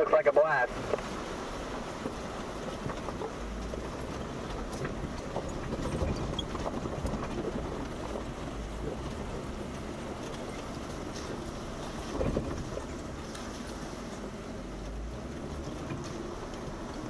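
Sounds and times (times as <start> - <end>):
vehicle engine driving slowly: 0.2 - 17.0.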